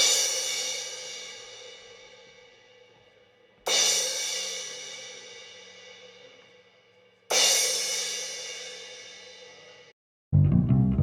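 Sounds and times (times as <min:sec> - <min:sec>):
cymbal struck and ringing: 0:00.0 - 0:03.0, 0:03.6 - 0:09.9.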